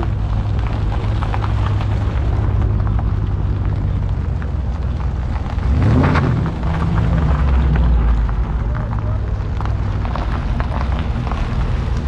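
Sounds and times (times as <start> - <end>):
car engine exhaust rumble: 0.0 - 12.0.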